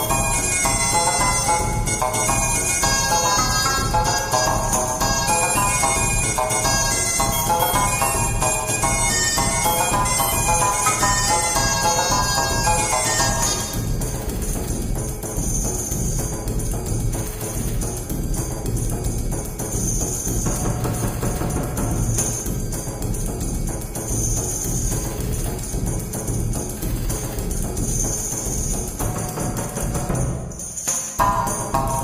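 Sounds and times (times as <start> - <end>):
background music with percussion: 0.0 - 32.0.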